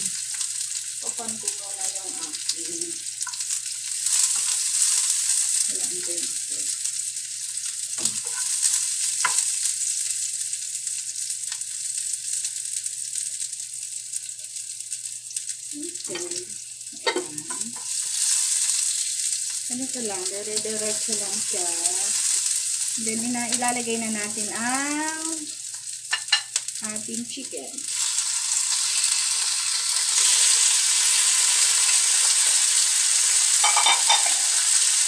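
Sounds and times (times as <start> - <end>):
garlic and onion sizzling in pan: 0.0 - 35.0.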